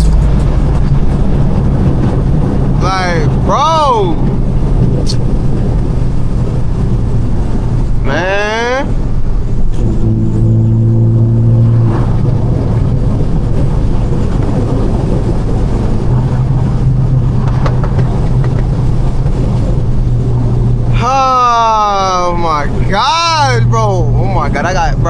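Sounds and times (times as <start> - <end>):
loud car engine droning: 0.0 - 25.0
road and exhaust noise: 0.0 - 25.0.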